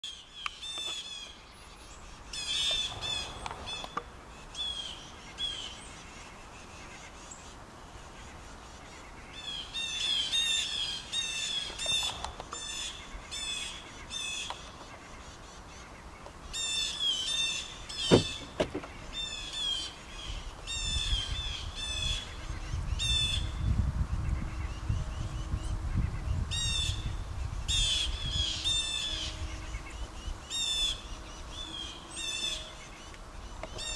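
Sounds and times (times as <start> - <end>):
blue jays harsh alarm calls: 0.1 - 23.6, 24.3 - 33.9.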